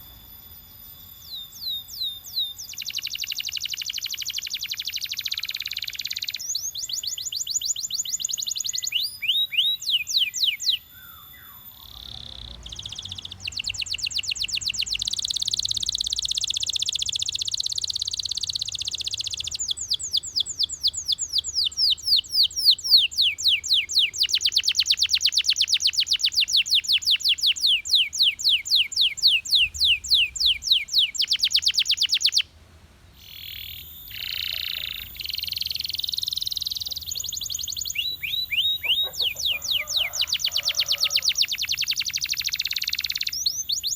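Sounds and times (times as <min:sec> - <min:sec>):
canary singing fast trills: 0:00.0 - 0:32.5, 0:33.1 - 0:43.9.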